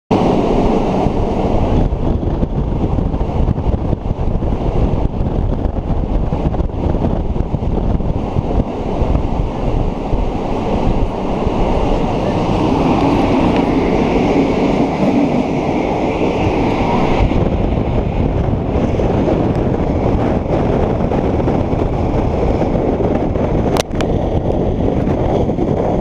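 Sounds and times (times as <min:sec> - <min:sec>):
train rumble: 0:00.1 - 0:26.0
wind rushing over microphone: 0:00.1 - 0:26.0.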